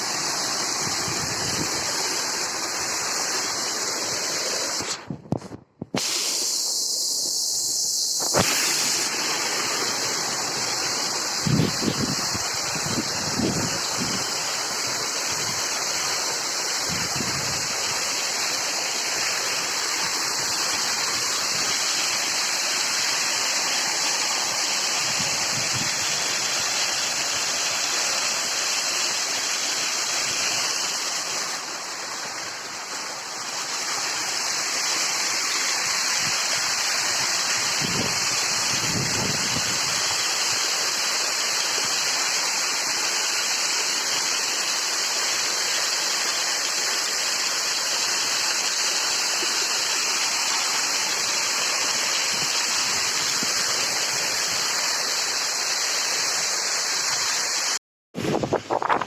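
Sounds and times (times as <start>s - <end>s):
waterfall rushing: 0.0s - 5.0s, 6.0s - 57.8s.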